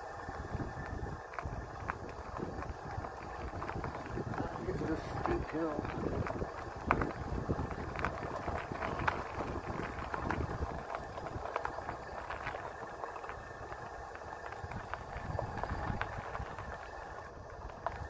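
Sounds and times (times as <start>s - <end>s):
bike clicking and rattling: 0.2s - 18.0s
wind buffeting microphone: 0.2s - 18.0s.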